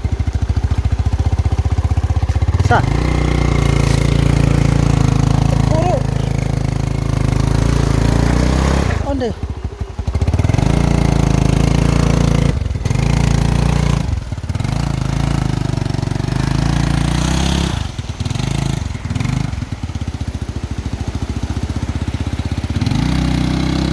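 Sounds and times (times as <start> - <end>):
small engine running: 0.0 - 23.9.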